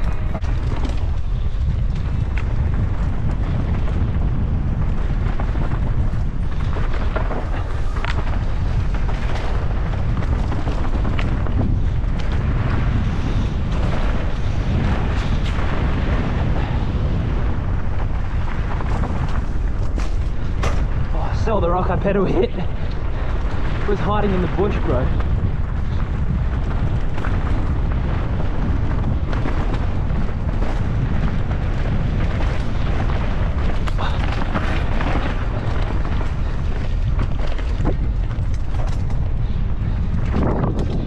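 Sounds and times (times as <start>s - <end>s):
bike knocking over rocks: 0.0s - 41.0s
tyre noise on loose stones: 0.0s - 41.0s
wind buffeting microphone: 0.0s - 41.0s.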